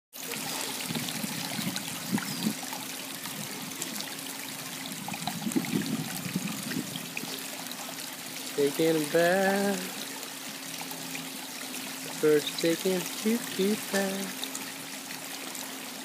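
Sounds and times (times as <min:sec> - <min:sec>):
water trickling down waterfall: 0:00.2 - 0:16.0.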